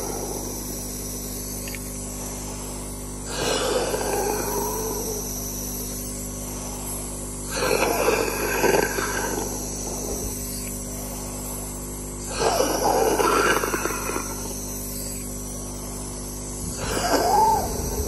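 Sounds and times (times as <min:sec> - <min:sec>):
man breathing deeply: 0:00.0 - 0:18.0
nebulizer compressor humming: 0:00.0 - 0:18.0.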